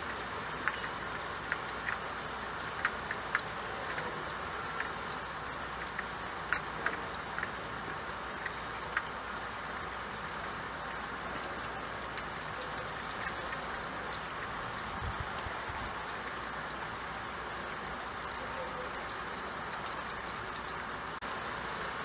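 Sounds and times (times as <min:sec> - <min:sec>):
drops ticking on a surface: 0:00.0 - 0:21.2
steady rain: 0:00.0 - 0:22.0.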